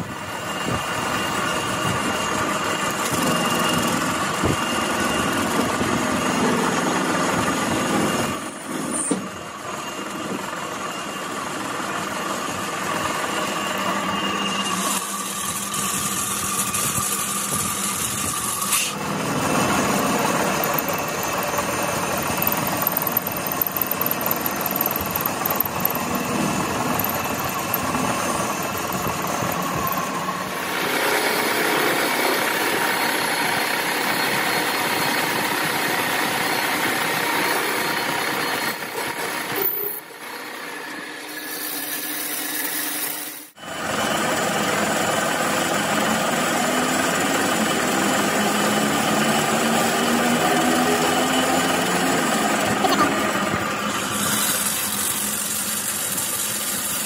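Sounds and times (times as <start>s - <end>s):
metal lathe whirring: 0.0s - 57.0s.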